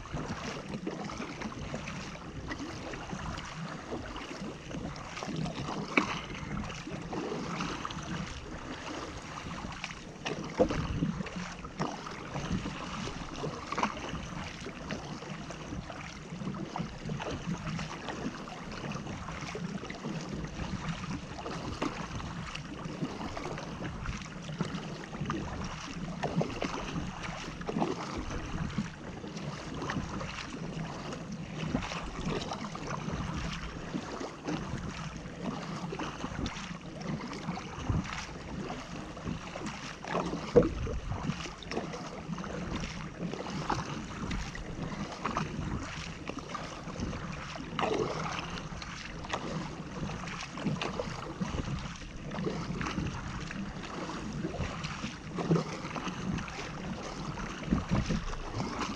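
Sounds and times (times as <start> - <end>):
paddle strokes splashing: 0.0 - 58.9
water washing along hull: 0.0 - 58.9
wind rumbling on microphone: 0.0 - 58.9.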